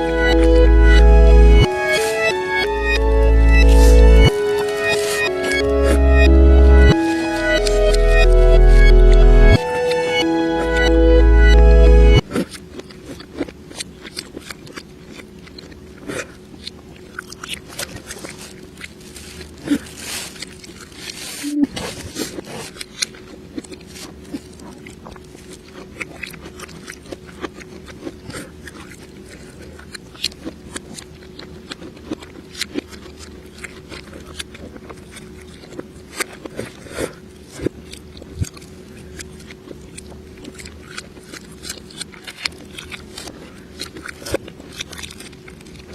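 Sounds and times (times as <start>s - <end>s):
faint steady hum: 0.0s - 45.9s
reversed crunching and chewing: 0.0s - 45.9s.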